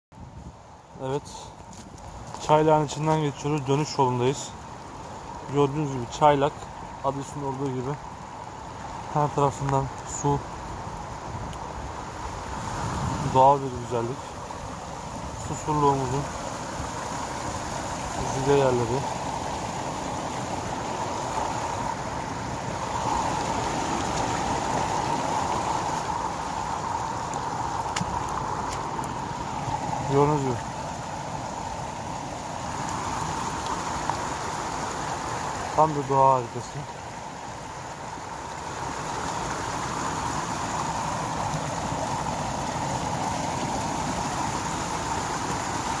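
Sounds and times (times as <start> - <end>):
stream flowing: 0.1 - 46.0.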